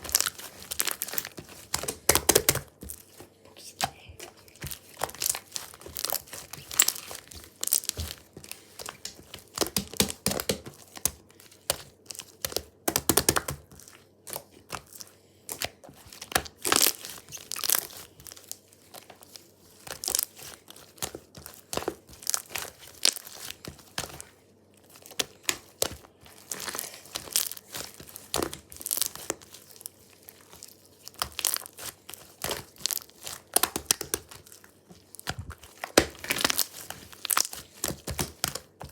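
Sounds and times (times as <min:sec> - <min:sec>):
paper crinkling: 0:00.0 - 0:12.5, 0:13.4 - 0:38.9.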